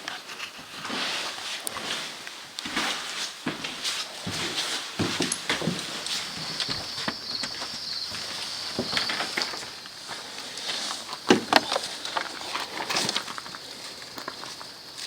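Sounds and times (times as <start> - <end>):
footsteps crunching: 0.5 - 15.0.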